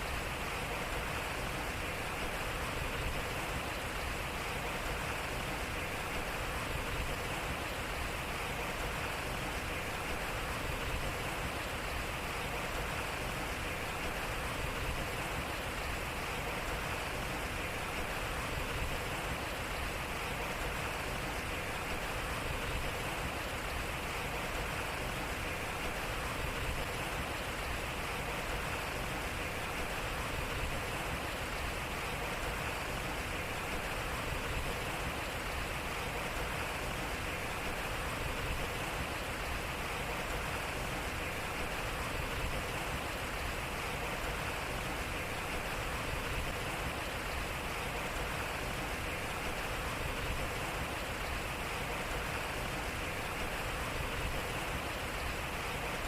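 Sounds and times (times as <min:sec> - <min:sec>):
water splashing around waterwheel: 0:00.0 - 0:56.0.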